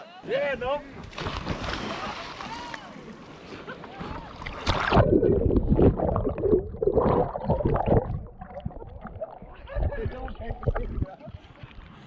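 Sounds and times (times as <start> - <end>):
water churning and gurgling: 1.1 - 12.0.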